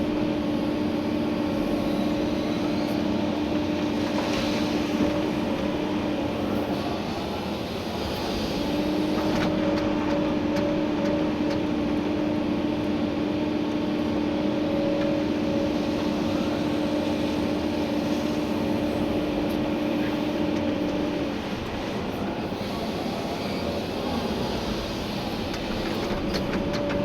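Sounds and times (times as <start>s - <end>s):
excavator running: 0.0s - 27.0s.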